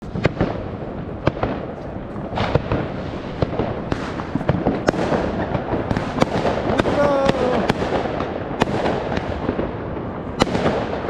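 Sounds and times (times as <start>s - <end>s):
distant fireworks crackle and rumble: 0.0s - 11.0s
fireworks sharp bangs: 0.0s - 11.0s.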